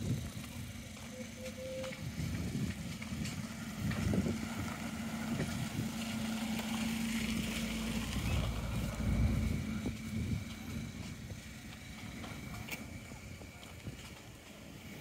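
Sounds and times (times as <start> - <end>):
wind noise on microphone: 0.0 - 1.0, 1.6 - 15.0
vehicle engine humming: 0.0 - 15.0.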